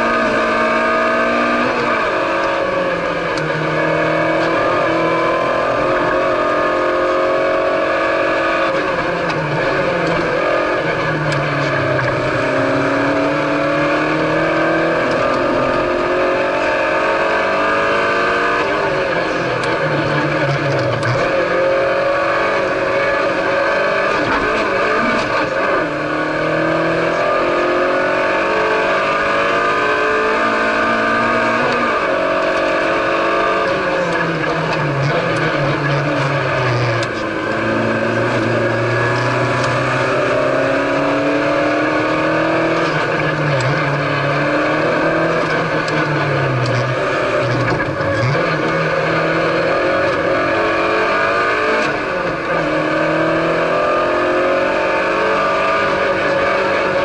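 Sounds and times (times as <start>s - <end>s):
rally car engine revving: 0.0s - 57.0s
road and cabin noise: 0.0s - 57.0s.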